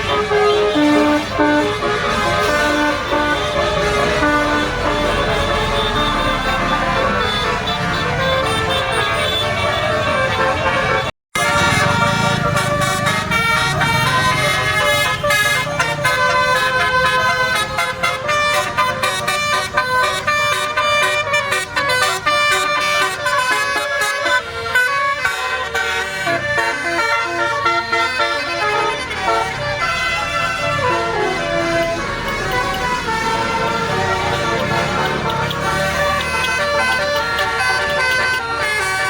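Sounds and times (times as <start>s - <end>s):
multi-tone bus horn tune: 0.0s - 39.0s.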